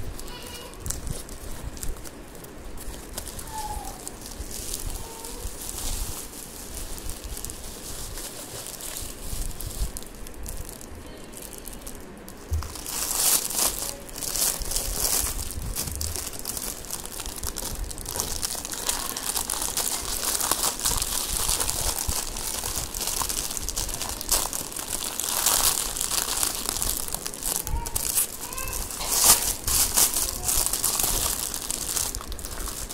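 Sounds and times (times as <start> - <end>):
plastic packaging crinkling: 0.0 - 32.9.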